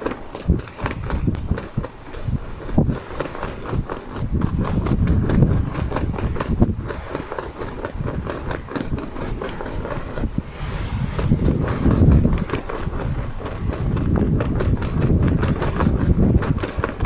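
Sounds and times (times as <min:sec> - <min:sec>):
low rumble of wind: 0:00.0 - 0:17.0
shirt flapping in wind: 0:00.0 - 0:17.0.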